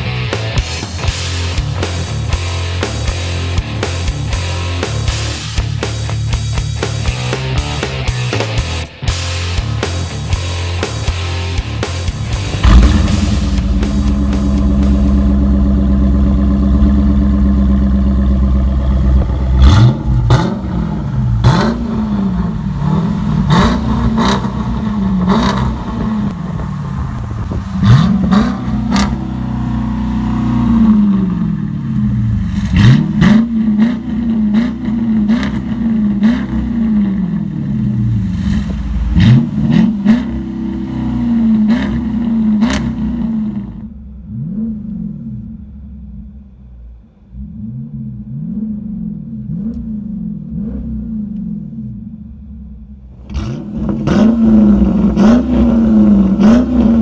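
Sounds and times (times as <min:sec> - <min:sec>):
car engine revving: 0:00.0 - 0:57.0
exhaust crackles: 0:09.5 - 0:57.0.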